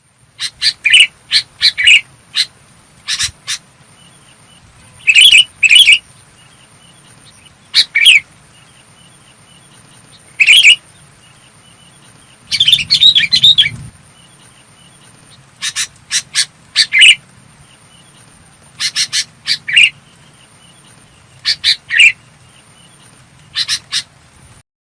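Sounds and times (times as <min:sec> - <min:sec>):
bulbul singing: 0:00.4 - 0:24.2.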